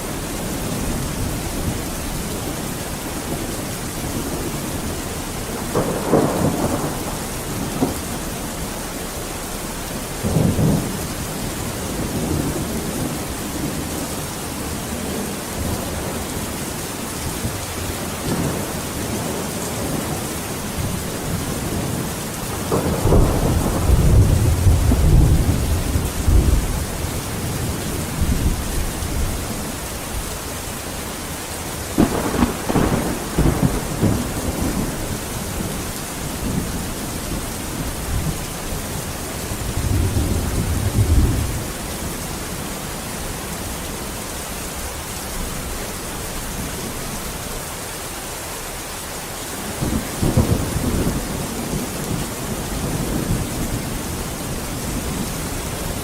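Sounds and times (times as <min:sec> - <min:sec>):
thunder rumbling: 0:00.0 - 0:30.9, 0:31.6 - 0:42.7, 0:49.6 - 0:56.0
heavy rain hissing: 0:00.0 - 0:56.0.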